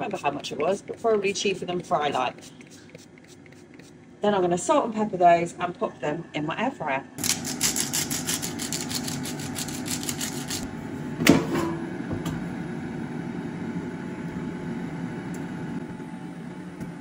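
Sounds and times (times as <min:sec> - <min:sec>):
air fryer humming: 0:00.0 - 0:17.0.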